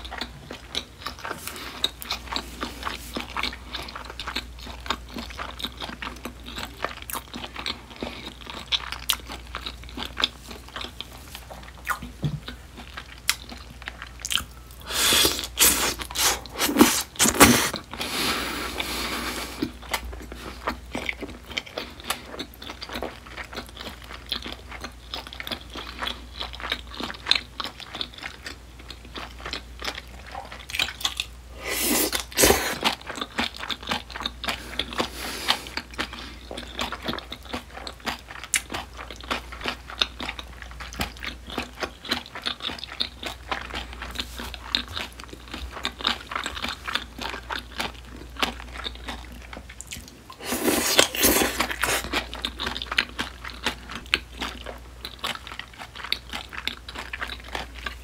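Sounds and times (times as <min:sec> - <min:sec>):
mouth chewing crunchy food: 0:00.0 - 0:58.0.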